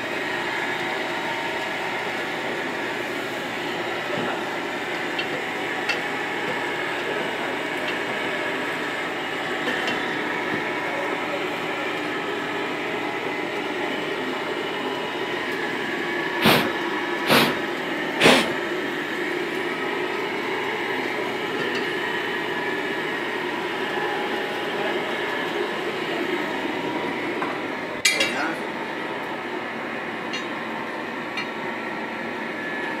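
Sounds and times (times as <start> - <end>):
forge blower running: 0.0 - 33.0.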